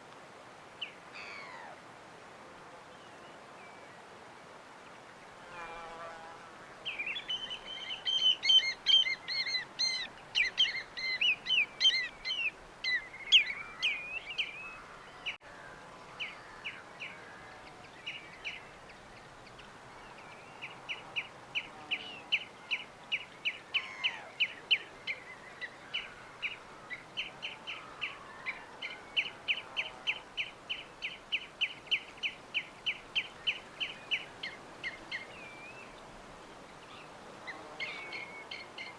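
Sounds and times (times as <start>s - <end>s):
background hiss: 0.0s - 38.9s
small birds chirping: 6.8s - 15.4s, 16.0s - 38.9s.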